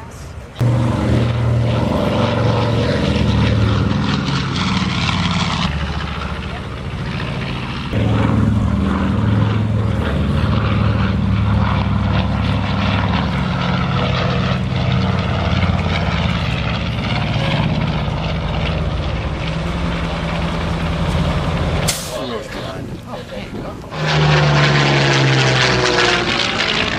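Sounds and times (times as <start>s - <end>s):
propeller airplane engine drone: 0.0s - 26.9s.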